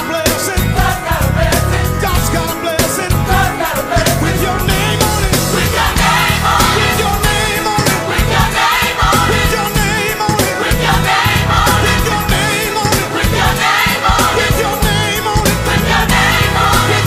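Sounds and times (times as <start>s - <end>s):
band with strong bass line: 0.0s - 17.0s
choir singing: 0.0s - 17.0s.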